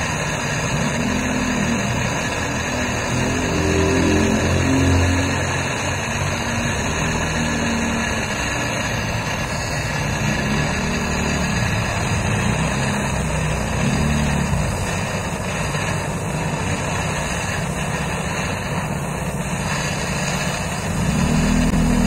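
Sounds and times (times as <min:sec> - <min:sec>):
gas torch rushing: 0:00.0 - 0:22.0.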